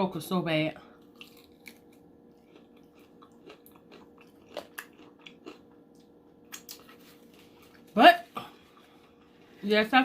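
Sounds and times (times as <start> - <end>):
chewing crunchy food: 0.9 - 9.6.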